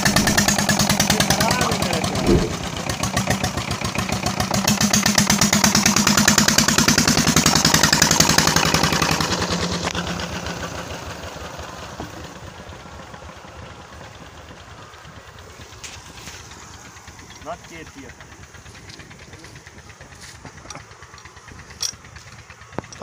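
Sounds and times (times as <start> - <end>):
diesel engine chugging: 0.0 - 23.0.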